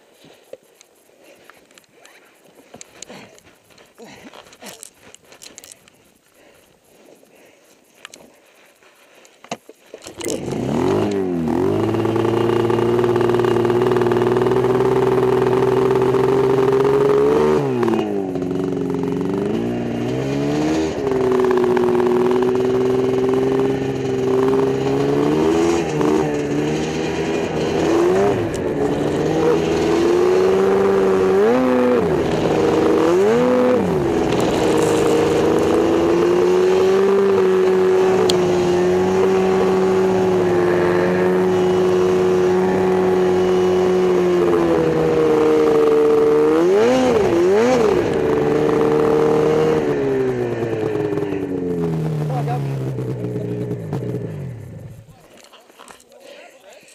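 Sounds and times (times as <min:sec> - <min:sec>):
small engine revving: 0:10.0 - 0:56.1.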